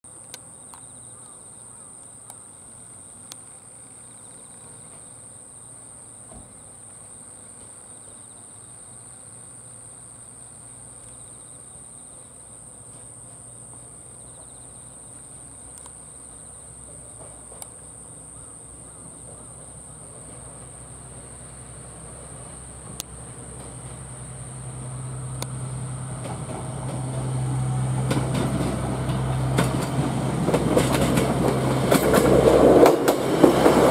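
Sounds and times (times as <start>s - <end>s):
diesel railcar engine hum: 0.1s - 33.9s
insects trilling: 0.1s - 33.9s.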